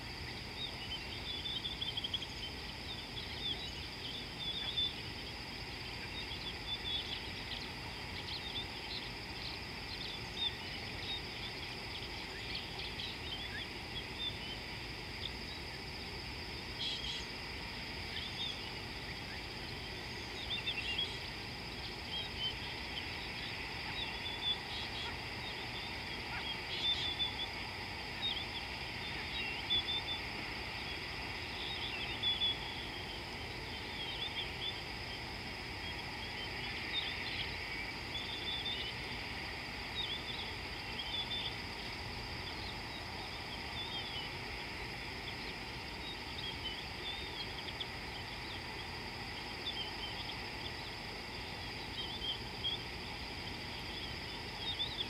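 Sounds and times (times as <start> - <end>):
low background hiss: 0.0 - 55.0.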